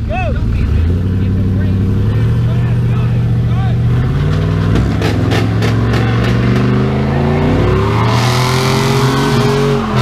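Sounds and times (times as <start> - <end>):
truck engines running under load: 0.0 - 10.0.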